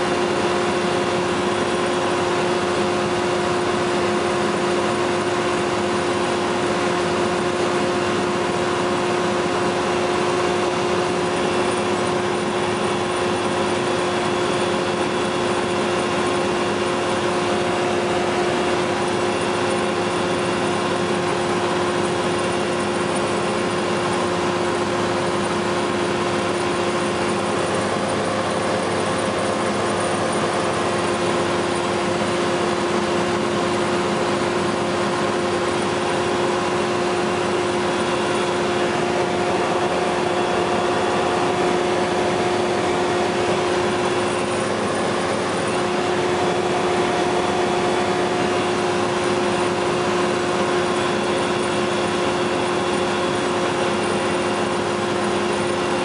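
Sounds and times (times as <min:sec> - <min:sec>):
aircraft engine and propeller drone: 0:00.0 - 0:56.0.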